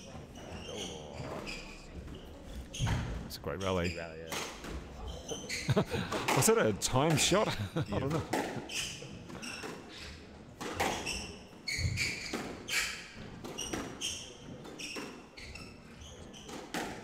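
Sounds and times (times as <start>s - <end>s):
shoes squeaking on wooden floor: 0.0s - 17.0s.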